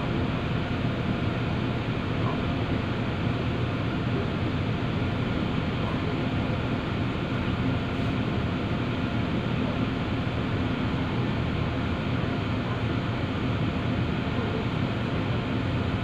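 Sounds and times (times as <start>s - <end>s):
ferry engine hum: 0.0s - 16.0s.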